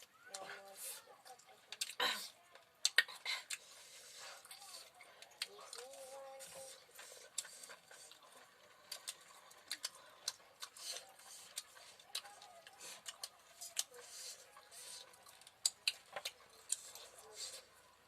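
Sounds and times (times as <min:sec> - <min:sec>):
wet chewing and lip smacks: 0:01.2 - 0:18.0.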